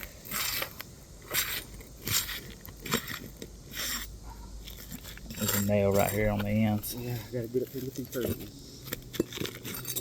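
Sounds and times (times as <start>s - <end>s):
metal tool scraping roof shingles: 0.2s - 4.1s, 4.7s - 7.0s, 7.6s - 10.0s.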